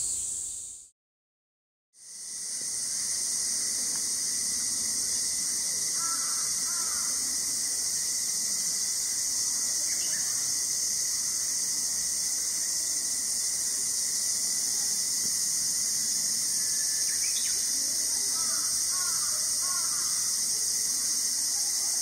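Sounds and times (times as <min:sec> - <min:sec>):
shrill insect chorus: 0:00.0 - 0:00.9, 0:02.0 - 0:22.0.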